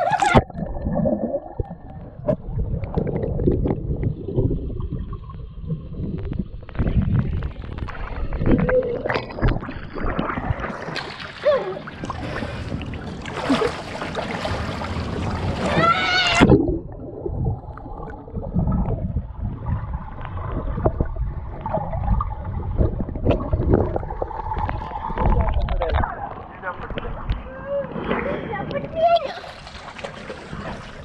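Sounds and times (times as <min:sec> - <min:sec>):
muffled underwater rushing and bubbling: 0:00.0 - 0:31.0.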